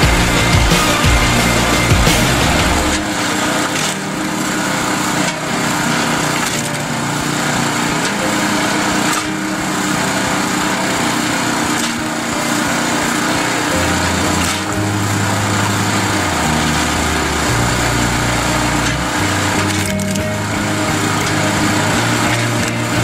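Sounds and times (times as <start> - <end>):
log splitter motor running: 0.0 - 23.0.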